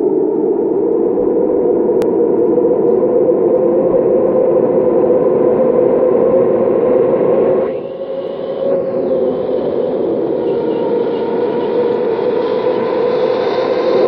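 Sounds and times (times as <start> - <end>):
engine drone in tunnel: 0.0 - 14.0.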